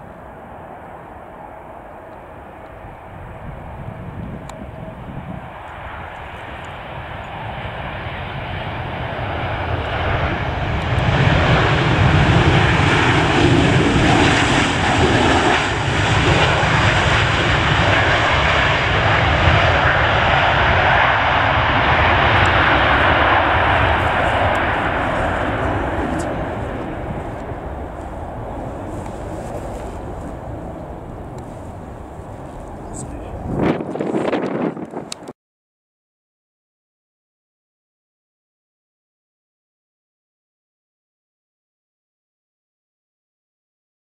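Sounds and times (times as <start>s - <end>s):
jet engines roaring: 0.0s - 35.3s.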